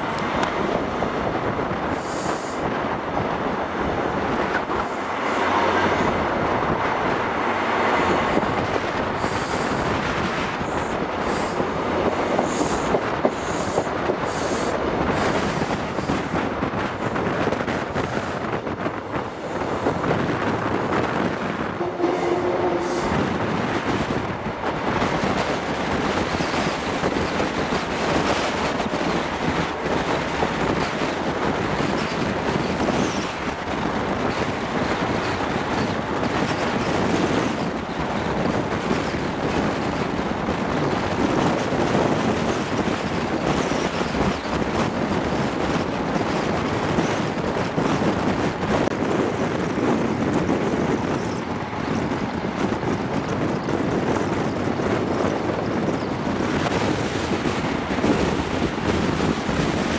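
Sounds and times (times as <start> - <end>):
train rumbling along track: 0.0 - 59.9
wind buffeting microphone: 0.0 - 59.9.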